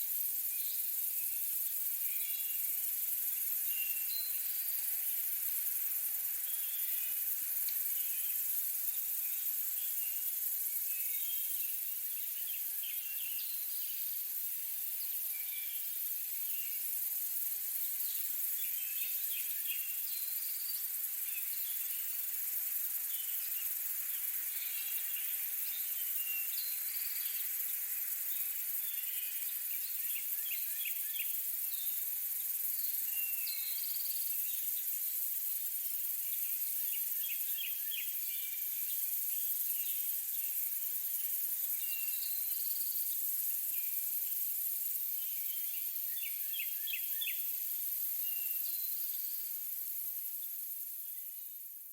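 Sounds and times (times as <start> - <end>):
short insect chirps: 0.0 - 51.9.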